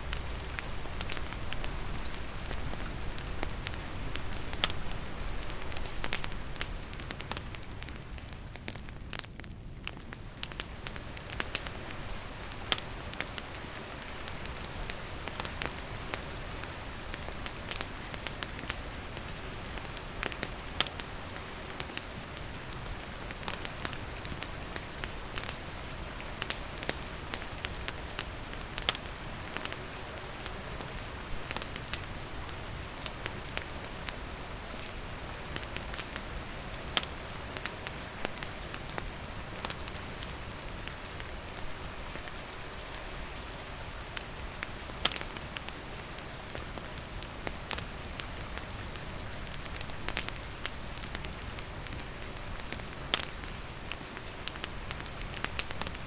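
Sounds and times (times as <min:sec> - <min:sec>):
campfire crackling: 0:00.0 - 0:56.0
steady rain falling: 0:00.0 - 0:56.0.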